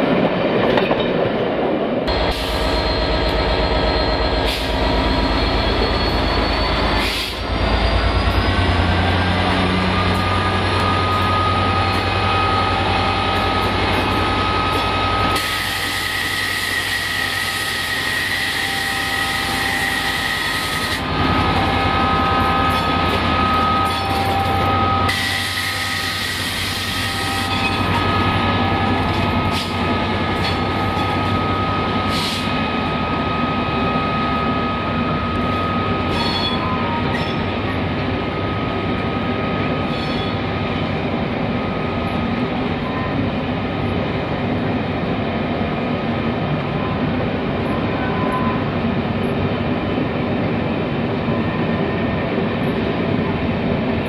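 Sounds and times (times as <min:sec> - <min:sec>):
diesel locomotive engine working hard: 0:00.0 - 0:54.0.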